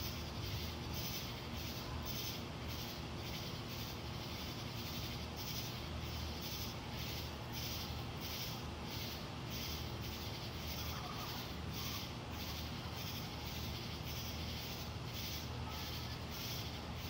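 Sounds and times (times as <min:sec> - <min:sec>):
night insects calling: 0:00.0 - 0:17.0.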